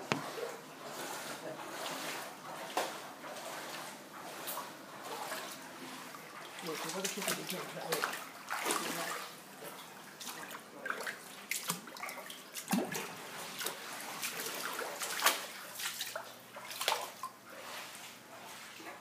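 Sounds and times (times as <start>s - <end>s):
flood water splashing and trickling: 0.0s - 19.0s.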